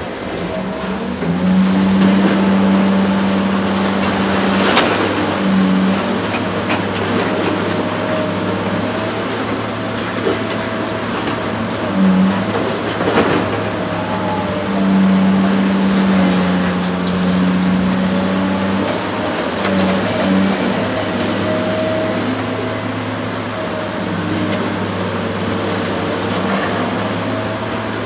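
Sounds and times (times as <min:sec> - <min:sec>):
excavator diesel engine: 0:00.0 - 0:28.0
hydraulic whine: 0:00.0 - 0:28.0.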